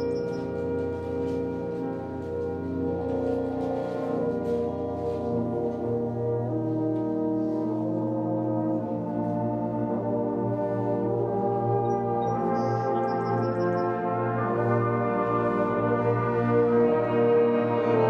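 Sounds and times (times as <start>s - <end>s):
concert band playing chords: 0.0s - 18.0s.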